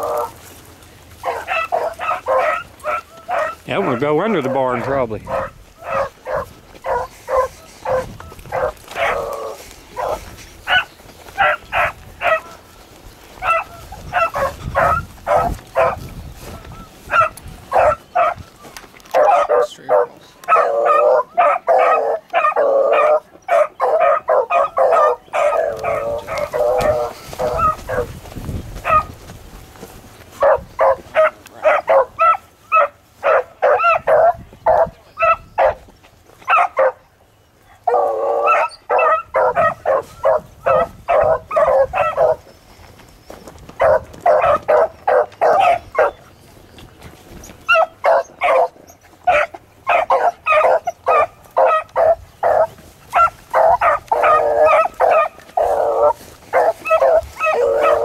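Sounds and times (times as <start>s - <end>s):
dogs baying: 0.0s - 58.0s.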